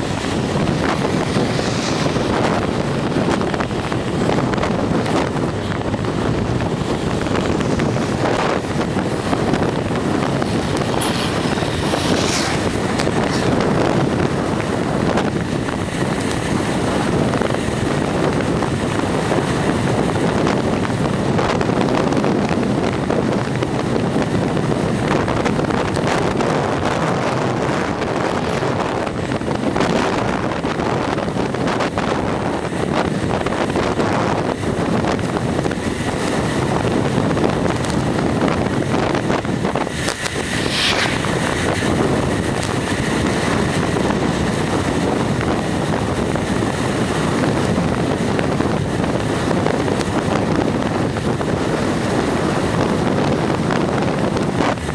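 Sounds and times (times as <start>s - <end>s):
rolling road noise: 0.0s - 54.9s
wind rushing over microphone: 0.0s - 54.9s.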